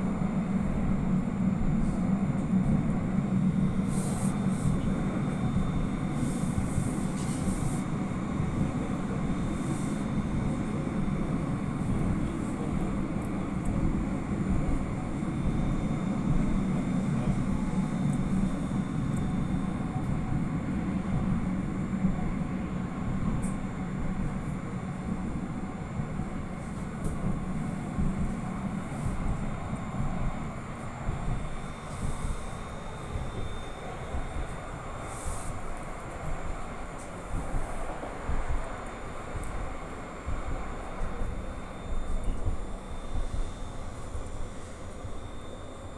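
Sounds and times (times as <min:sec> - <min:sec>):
tram cabin rumble: 0:00.0 - 0:45.9.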